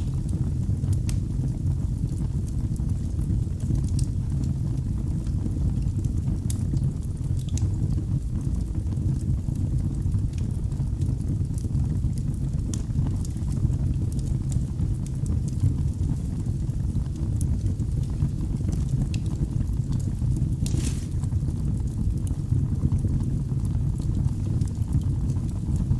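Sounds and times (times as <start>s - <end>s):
fire flames rumbling: 0.0s - 25.9s
wood fire crackling and popping: 0.0s - 25.9s.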